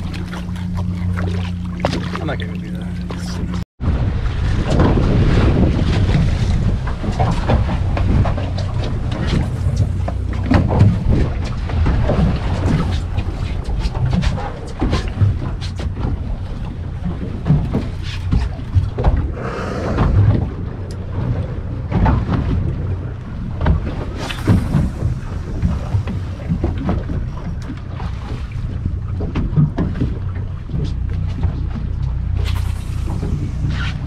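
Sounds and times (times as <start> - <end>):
boat engine running: 0.0 - 34.0
wind buffeting microphone: 0.0 - 34.0.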